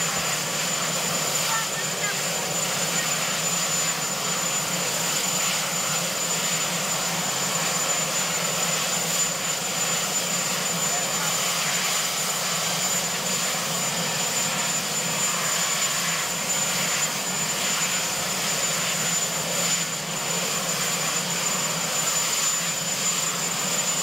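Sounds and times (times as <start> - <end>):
helicopter turbine whine: 0.0 - 24.0.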